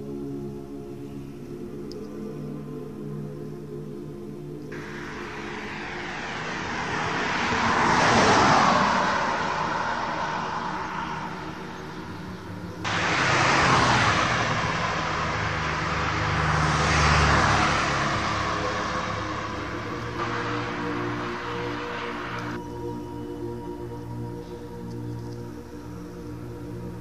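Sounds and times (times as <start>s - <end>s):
cars passing on road: 4.6s - 27.0s.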